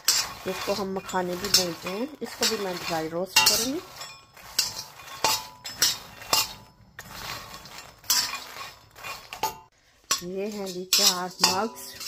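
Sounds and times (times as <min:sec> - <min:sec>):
metal spoon scraping a pan: 0:00.0 - 0:12.0.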